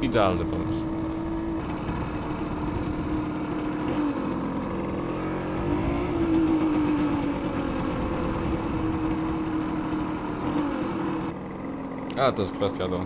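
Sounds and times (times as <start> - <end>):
moped engine running: 0.0 - 13.0.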